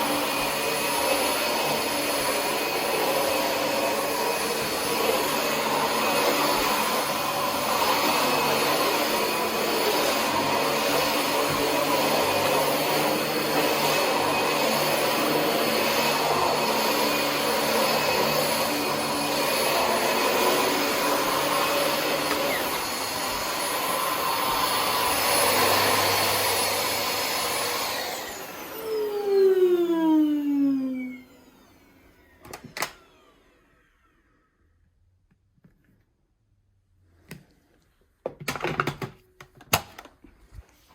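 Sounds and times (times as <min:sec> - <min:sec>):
upright vacuum cleaner running: 0:00.0 - 0:34.5.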